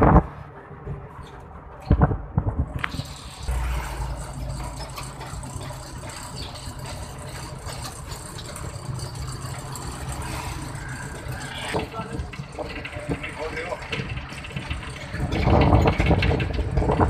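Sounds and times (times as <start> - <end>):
vehicle engine and road noise: 0.0 - 17.0
deep rumble: 1.9 - 17.0
rattling: 2.8 - 17.0.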